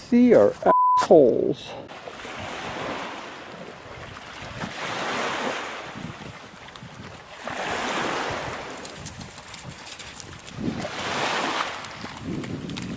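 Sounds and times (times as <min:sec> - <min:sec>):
waves washing on pebbly shore: 0:01.9 - 0:12.9.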